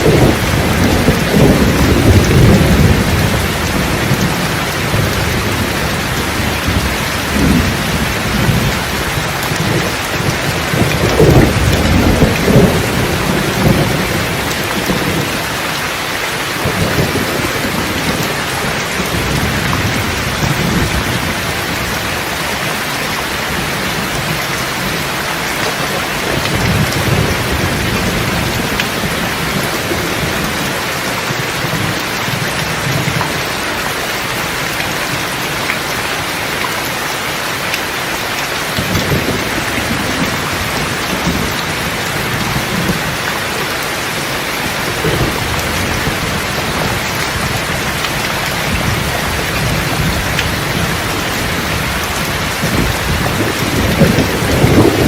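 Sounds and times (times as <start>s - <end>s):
rolling thunder: 0.0s - 15.8s, 16.4s - 22.7s, 23.3s - 33.6s, 38.7s - 43.3s, 44.2s - 55.0s
heavy rain falling: 0.0s - 55.0s.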